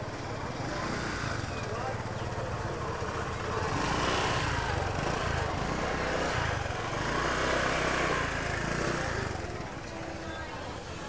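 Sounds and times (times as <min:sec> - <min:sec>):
crowd chattering: 0:00.0 - 0:11.0.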